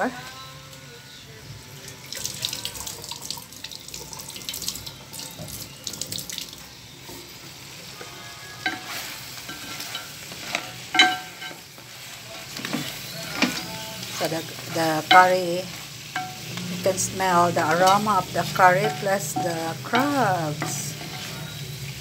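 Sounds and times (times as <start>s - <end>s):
sauce bubbling and sizzling: 1.8s - 22.0s.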